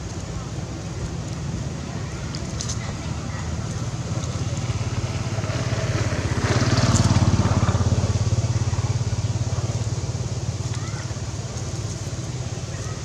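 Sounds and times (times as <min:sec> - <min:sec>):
vehicle engine pulsing hum: 0:00.0 - 0:13.0.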